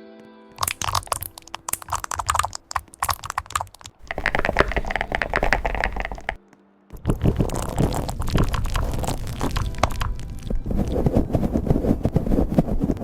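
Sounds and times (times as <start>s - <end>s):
fast typing on keyboard: 0.6s - 6.4s, 7.0s - 12.2s.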